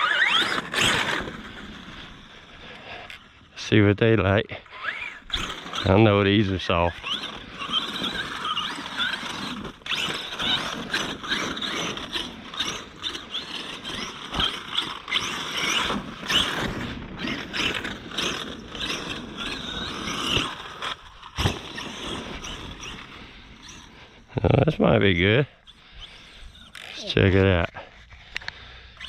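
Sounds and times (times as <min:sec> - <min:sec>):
tyres scrabbling through dirt: 0:00.0 - 0:28.4
drivetrain gear noise: 0:00.0 - 0:29.0
electric motor whining: 0:00.0 - 0:29.0.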